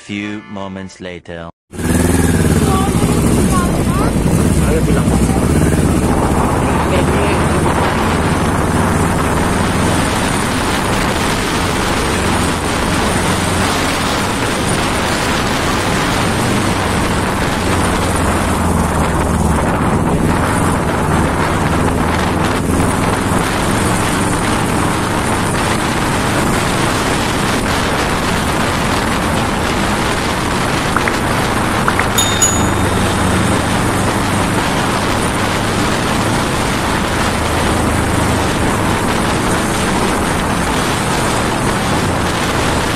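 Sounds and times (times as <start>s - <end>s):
motorcycle engine running: 1.7s - 42.9s
wind rushing on microphone: 1.9s - 42.9s.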